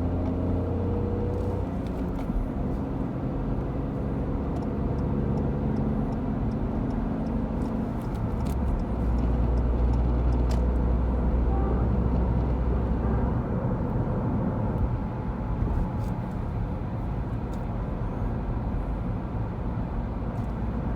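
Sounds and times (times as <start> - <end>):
car engine drone: 0.0 - 20.9.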